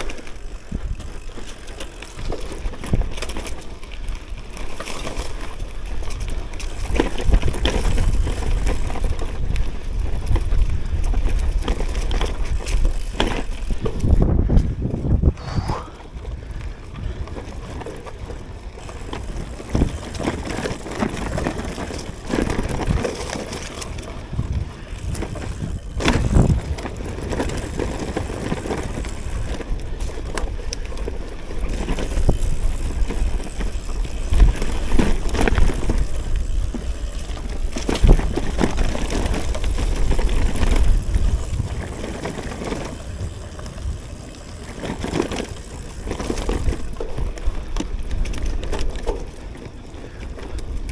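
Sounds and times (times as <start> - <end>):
wind buffeting microphone: 0.0 - 3.2, 5.7 - 50.9
bike rattling over bumps: 0.0 - 50.9
bike tyre rumble on dirt trail: 0.0 - 50.9.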